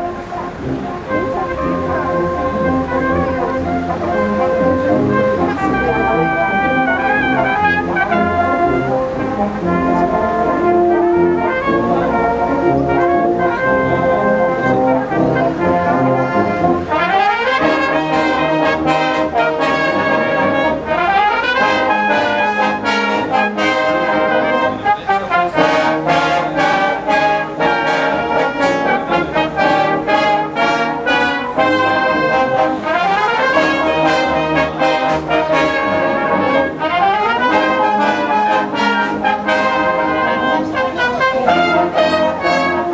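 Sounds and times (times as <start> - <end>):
brass band playing: 0.0 - 42.9.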